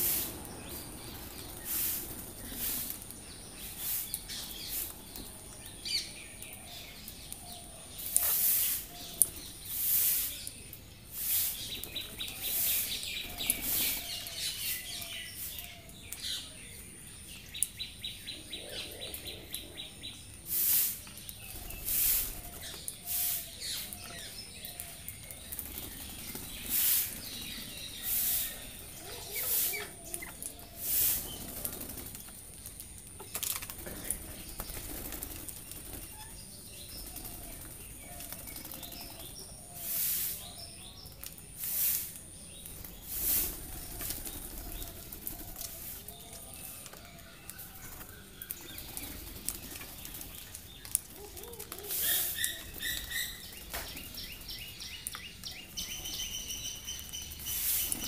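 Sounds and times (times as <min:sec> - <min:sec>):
rapid ticking bird chatter: 0:00.0 - 0:58.0.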